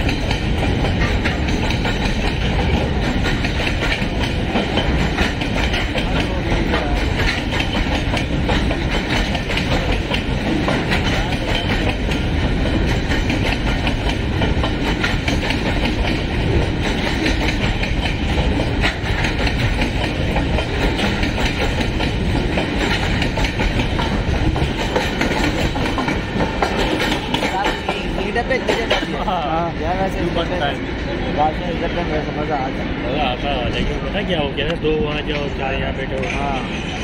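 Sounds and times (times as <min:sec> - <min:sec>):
clickety-clack over rail joints: 0:00.0 - 0:37.0
train wheels rumbling on rail: 0:00.0 - 0:37.0.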